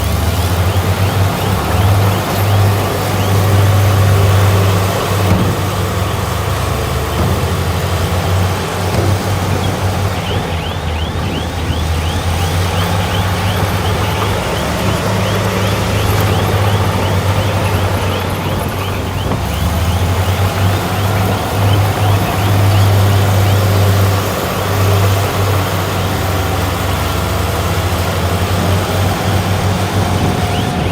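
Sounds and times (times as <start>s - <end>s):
heavy diesel engine running: 0.0s - 30.9s.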